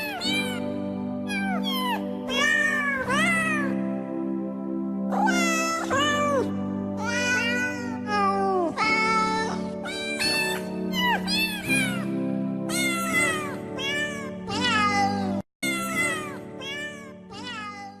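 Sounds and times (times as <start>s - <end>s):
cat meowing: 0.0s - 0.6s, 1.3s - 3.8s, 5.1s - 12.1s, 12.7s - 18.0s
background music: 0.0s - 18.0s.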